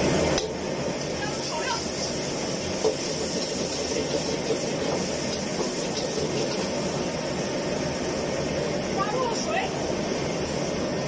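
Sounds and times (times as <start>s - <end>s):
gas burner roaring: 0.0s - 11.0s
vegetables stir-frying in wok: 0.0s - 11.0s.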